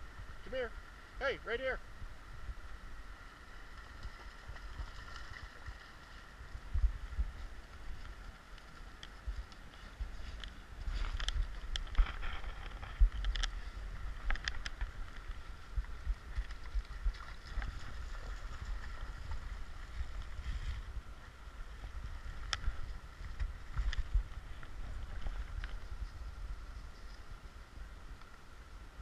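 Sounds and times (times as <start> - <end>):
wind rumble on microphone: 0.0 - 1.2, 1.8 - 29.0
creek water running: 0.0 - 29.0.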